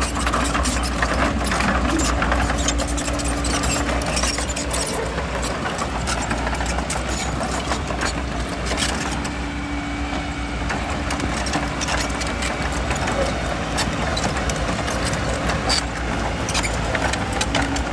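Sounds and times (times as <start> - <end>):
bulldozer diesel engine running: 0.0 - 17.9
sharp clicks and clatters: 0.0 - 17.9.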